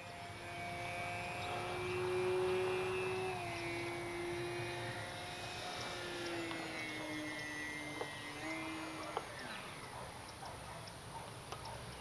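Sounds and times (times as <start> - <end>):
model plane motor whining: 0.1 - 10.0.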